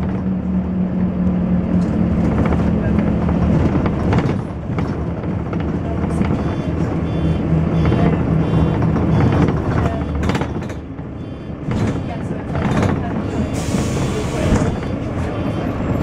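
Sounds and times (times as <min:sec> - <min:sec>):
bus diesel engine thrashing: 0:01.9 - 0:16.0.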